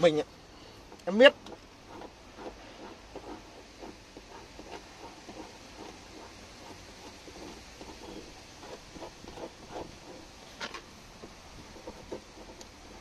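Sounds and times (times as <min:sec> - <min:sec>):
fingernail scratching paper: 0:00.6 - 0:13.0.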